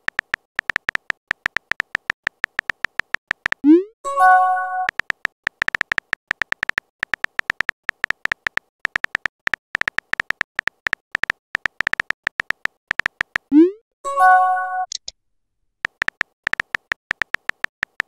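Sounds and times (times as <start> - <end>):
keyboard tap tones: 0.0 - 13.8, 15.8 - 18.0.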